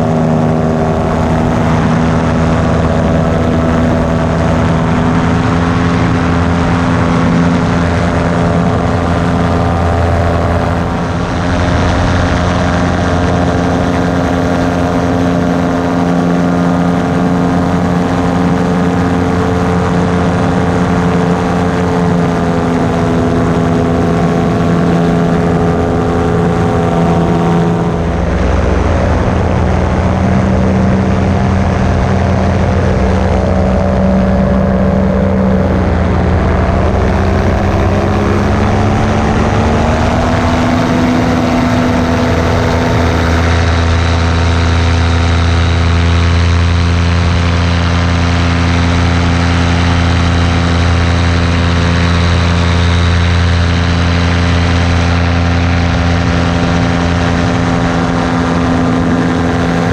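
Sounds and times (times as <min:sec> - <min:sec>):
propeller motor droning: 0:00.0 - 0:59.9.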